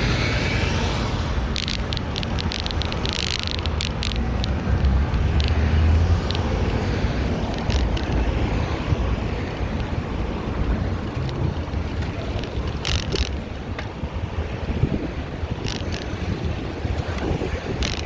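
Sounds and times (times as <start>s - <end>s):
car traffic rumble: 0.0s - 18.0s
bicycle clicks and rattles: 1.4s - 18.0s.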